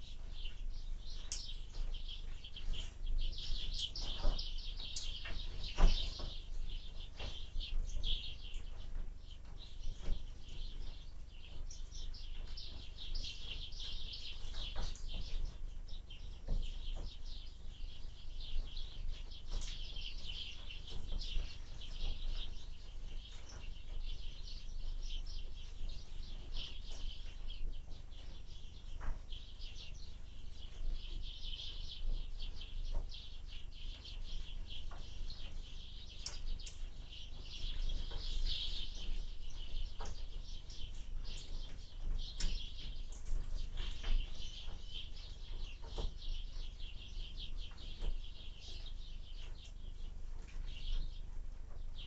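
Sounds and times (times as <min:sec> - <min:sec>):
songbirds chirping: 0:00.0 - 0:52.0.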